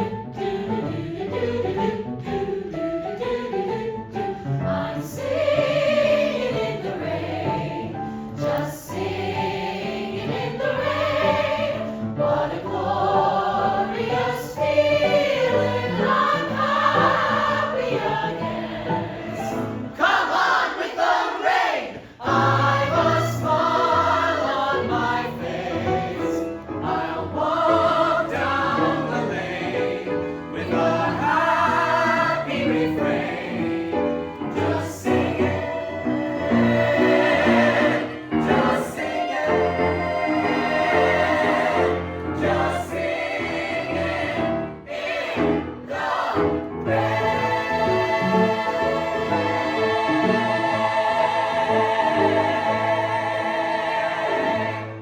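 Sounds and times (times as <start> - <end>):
group singing a show tune: 0.0 - 55.0.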